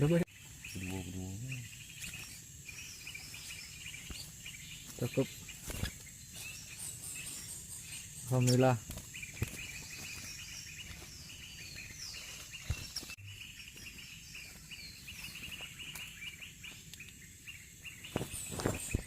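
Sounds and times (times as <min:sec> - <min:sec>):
insect drone: 0:00.0 - 0:19.0
small birds chirping: 0:00.0 - 0:19.0.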